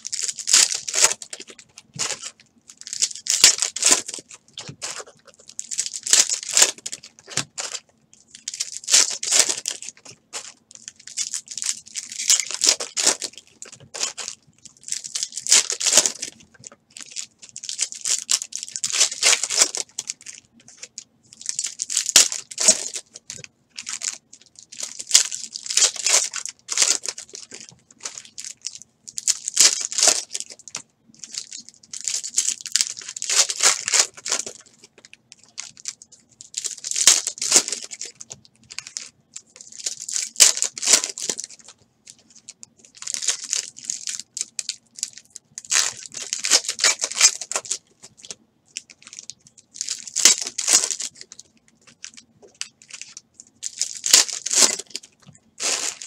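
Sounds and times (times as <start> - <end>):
foil wrappers tearing and crinkling: 0.0 - 56.0.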